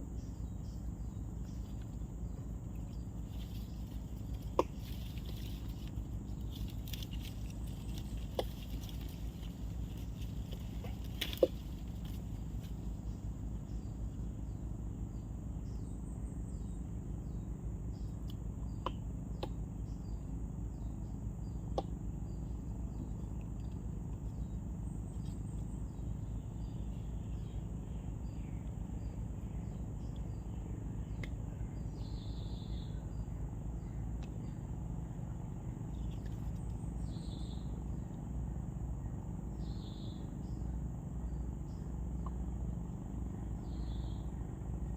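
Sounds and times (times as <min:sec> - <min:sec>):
high insect hum: 0:00.0 - 0:44.9
insects chirping: 0:00.0 - 0:44.9
low steady rumble: 0:00.0 - 0:44.9.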